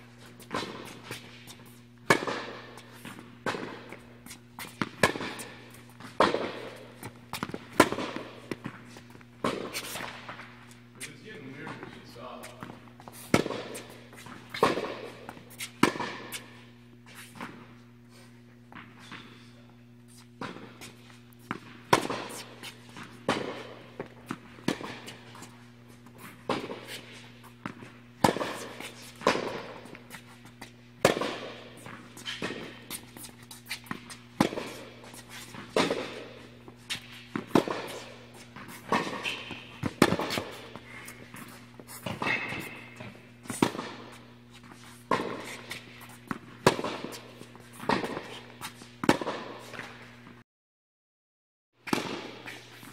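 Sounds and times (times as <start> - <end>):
steady low hum: 0.0 - 50.4
tennis balls struck and bouncing: 0.1 - 17.7, 20.3 - 44.4, 45.0 - 50.3, 51.8 - 52.9.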